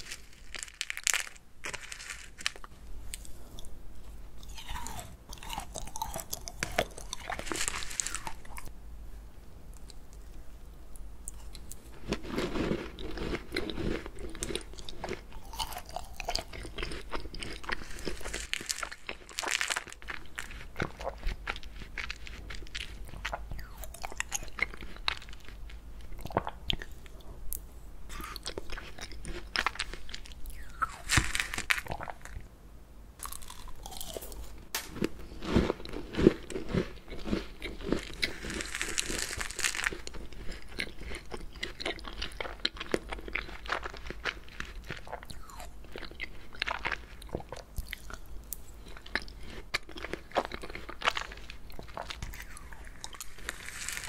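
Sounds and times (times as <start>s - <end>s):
crunchy chewing: 0.0s - 8.7s, 11.2s - 32.5s, 33.2s - 54.0s.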